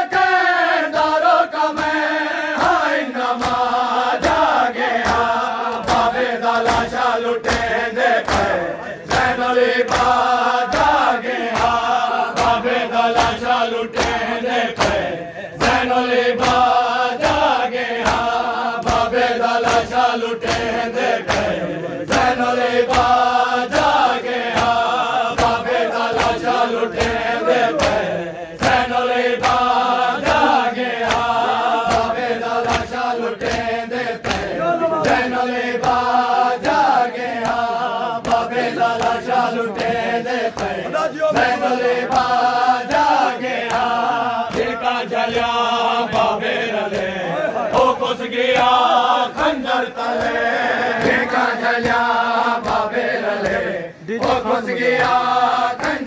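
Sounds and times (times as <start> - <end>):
men chanting in unison: 0.0 - 56.0
chest beating slaps: 2.6 - 55.2.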